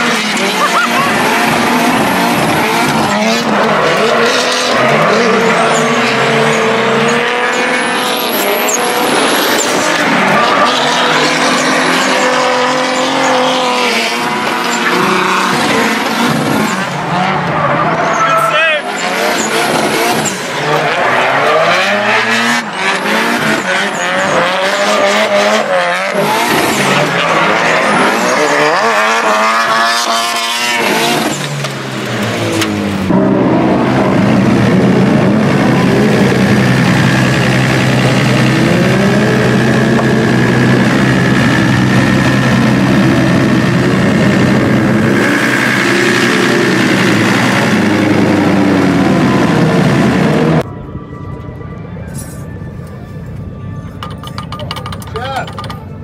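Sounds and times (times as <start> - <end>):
car engine revving: 0.0 - 50.7.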